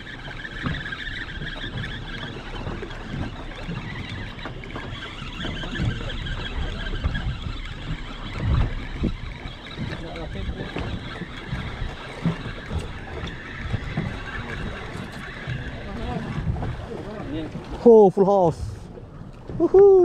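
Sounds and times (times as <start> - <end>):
boat rumble and water wash: 0.0 - 20.0.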